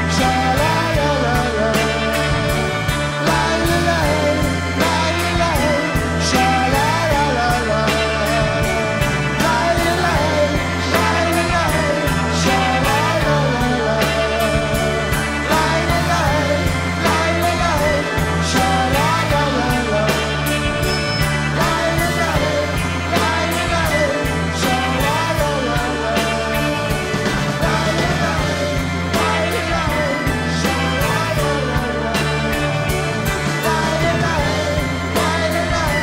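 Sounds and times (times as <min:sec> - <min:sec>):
drums keeping a steady beat: 0:00.0 - 0:36.0
electric guitars and bass: 0:00.0 - 0:36.0
wavering melody line: 0:00.0 - 0:36.0.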